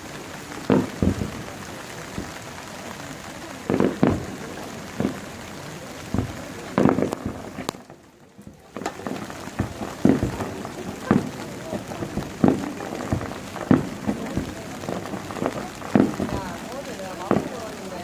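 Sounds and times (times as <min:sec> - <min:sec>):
fireworks booming: 0:00.0 - 0:18.0
rain hissing: 0:00.0 - 0:18.0.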